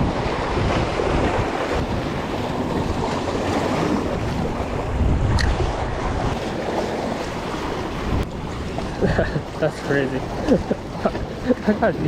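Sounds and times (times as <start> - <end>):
water wash: 0.0 - 12.0
wind buffeting microphone: 0.0 - 12.0.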